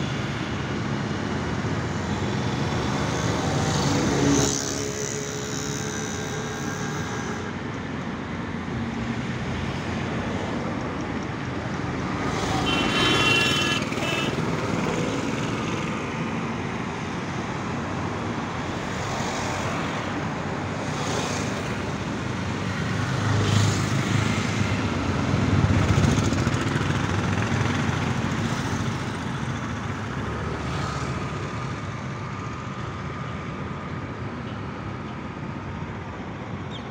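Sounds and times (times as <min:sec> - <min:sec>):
road traffic hum: 0:00.0 - 0:36.9
vehicles passing: 0:00.0 - 0:36.9.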